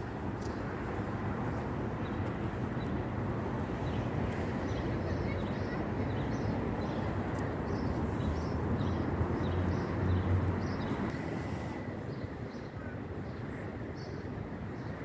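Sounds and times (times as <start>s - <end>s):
low rumble of road traffic: 0.0s - 15.0s.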